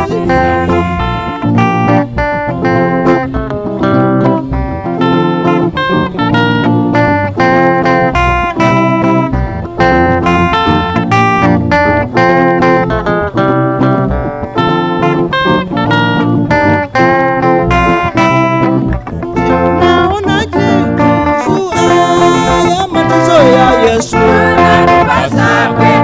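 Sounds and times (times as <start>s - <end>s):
plucked guitar notes: 0.0s - 26.0s.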